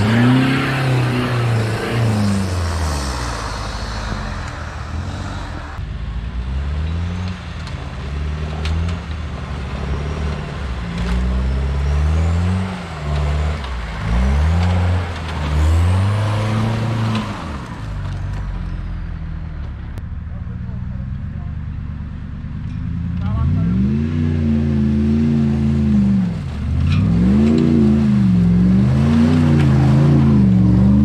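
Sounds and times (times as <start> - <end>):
off-road vehicle engine revving: 0.0 - 18.8, 20.5 - 31.0.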